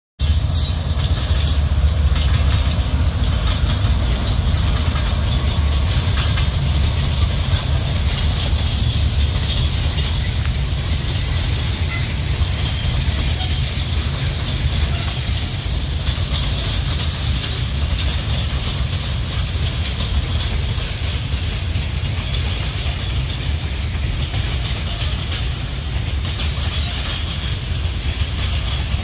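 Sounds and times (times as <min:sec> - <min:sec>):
freight train rumbling: 0:00.2 - 0:29.0
wheels clattering over track: 0:00.2 - 0:29.0.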